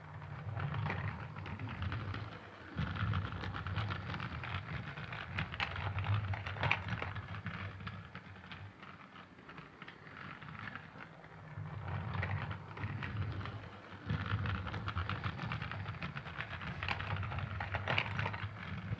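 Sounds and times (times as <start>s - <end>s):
toy train motor humming: 0.0s - 18.9s.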